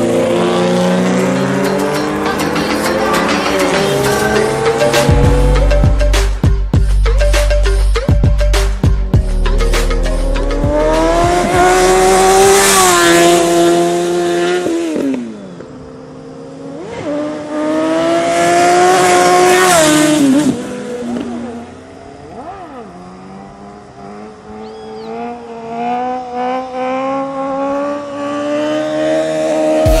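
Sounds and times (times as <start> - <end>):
motorcycle engines accelerating: 0.0 - 6.5, 9.1 - 30.0.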